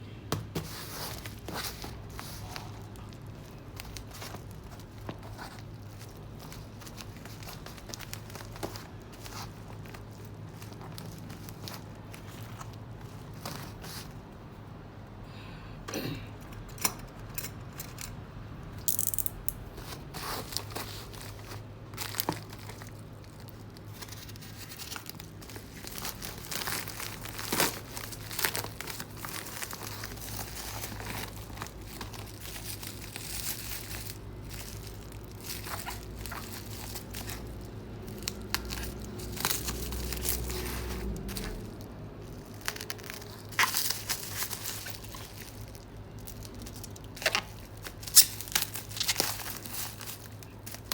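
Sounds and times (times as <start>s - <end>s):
steady low hum: 0.0s - 50.9s
packaging crinkling and tearing: 0.6s - 14.3s, 19.6s - 50.9s.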